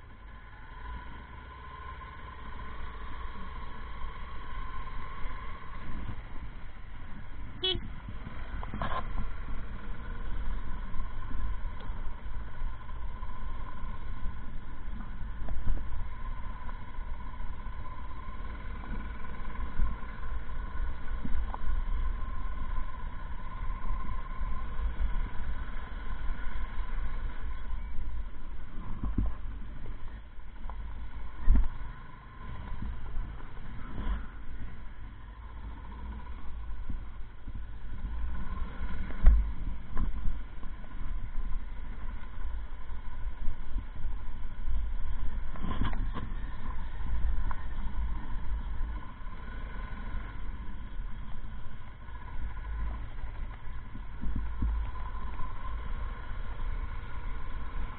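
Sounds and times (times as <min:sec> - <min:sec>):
motorcycle engine rumbling: 0:00.0 - 0:57.9.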